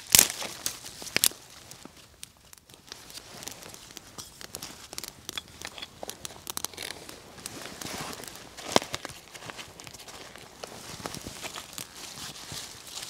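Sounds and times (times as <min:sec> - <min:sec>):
dry twigs and leaves rustling: 0:00.0 - 0:13.0
fire crackling and popping: 0:00.0 - 0:13.0.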